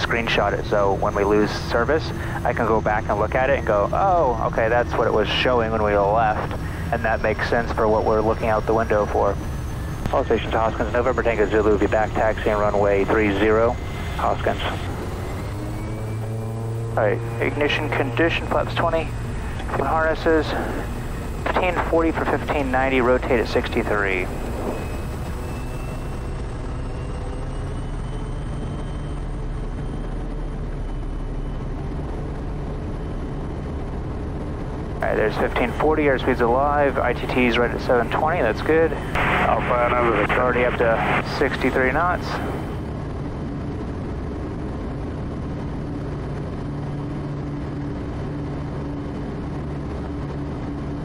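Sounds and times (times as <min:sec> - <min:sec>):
high turbine whine: 0:00.0 - 0:51.0
turboprop engine and propeller: 0:00.0 - 0:51.0.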